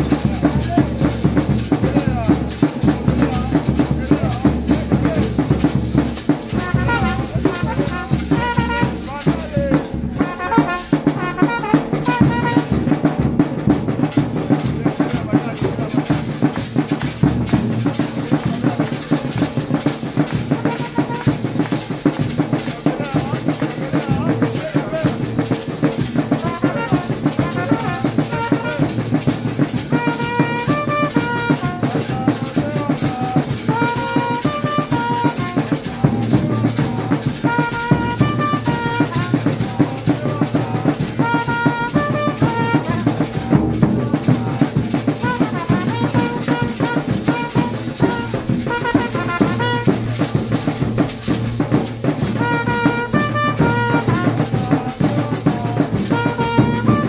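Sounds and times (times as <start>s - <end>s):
horn melody: 0.0s - 57.0s
large drums rhythm: 0.0s - 57.0s.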